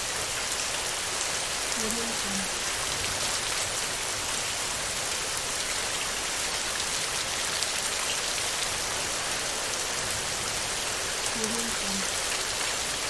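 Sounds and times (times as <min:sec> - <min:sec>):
heavy rain on a metal roof: 0:00.0 - 0:13.0.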